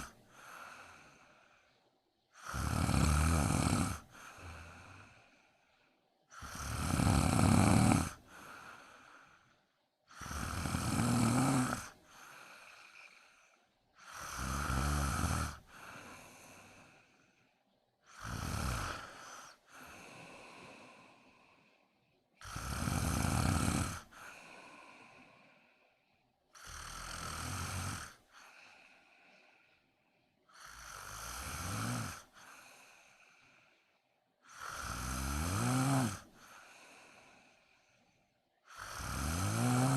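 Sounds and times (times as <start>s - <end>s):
woman snoring: 0.0s - 1.7s, 2.3s - 5.7s, 6.3s - 17.4s, 18.0s - 21.8s, 22.4s - 25.9s, 26.5s - 29.8s, 30.4s - 33.8s, 34.4s - 38.0s, 38.6s - 39.9s
quiet breath: 0.0s - 39.9s.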